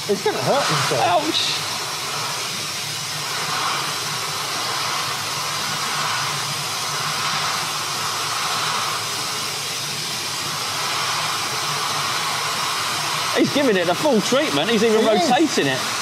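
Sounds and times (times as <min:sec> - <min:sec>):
shot blasting hiss: 0:00.0 - 0:16.0.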